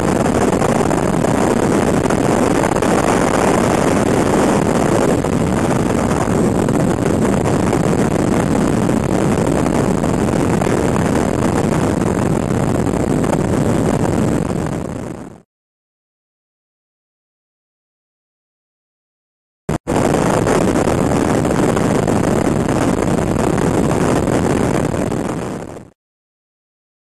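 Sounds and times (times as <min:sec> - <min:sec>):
wind and road noise: 0:00.0 - 0:15.4, 0:19.7 - 0:26.0.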